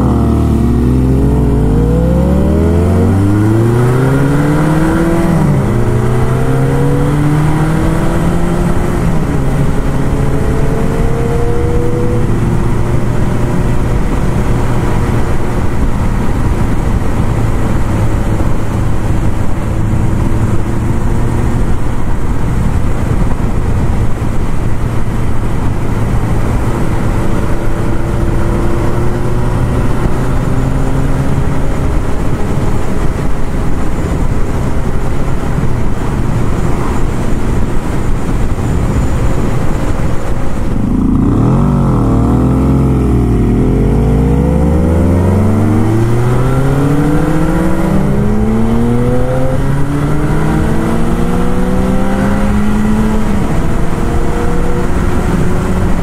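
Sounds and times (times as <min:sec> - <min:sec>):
motorcycle engine: 0:00.0 - 0:56.0
wind rush: 0:00.0 - 0:56.0.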